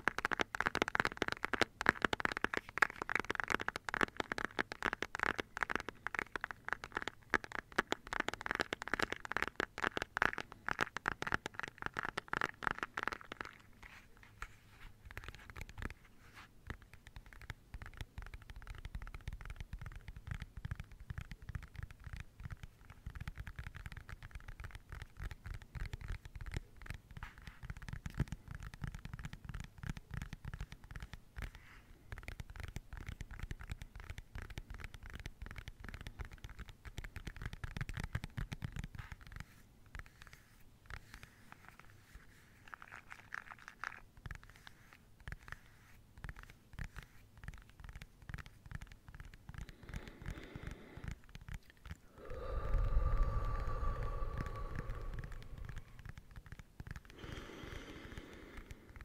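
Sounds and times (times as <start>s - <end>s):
rapid tapping on plastic: 0.0s - 59.0s.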